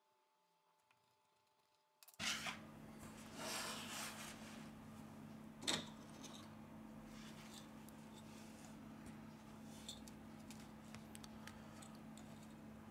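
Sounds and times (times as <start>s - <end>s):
low steady hum: 2.2s - 12.9s.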